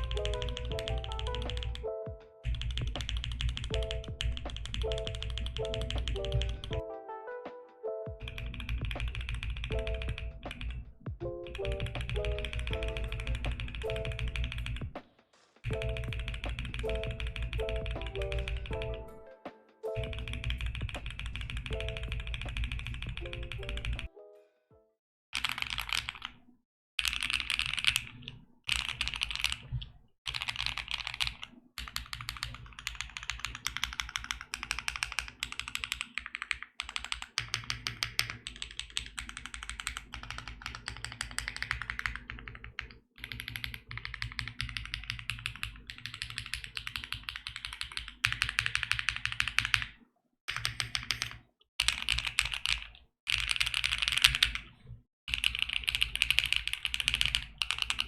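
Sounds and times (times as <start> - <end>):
fast typing on mechanical keyboard: 0.0 - 6.8, 8.2 - 15.0, 15.6 - 19.0, 19.9 - 24.1, 25.4 - 26.4, 27.0 - 54.7, 55.3 - 58.0.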